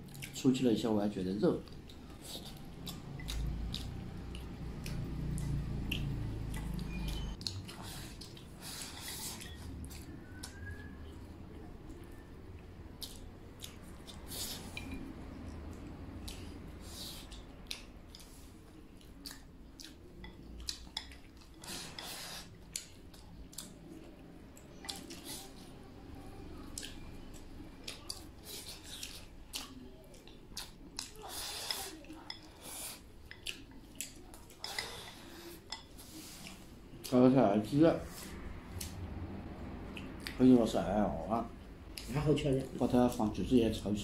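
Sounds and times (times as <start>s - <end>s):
eating noises: 0.0s - 37.3s, 38.2s - 43.5s.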